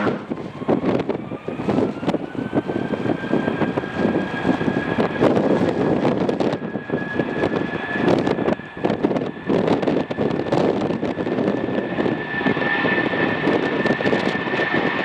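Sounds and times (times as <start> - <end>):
jet engines whining: 0.0 - 15.0
wind buffeting microphone: 0.0 - 15.0.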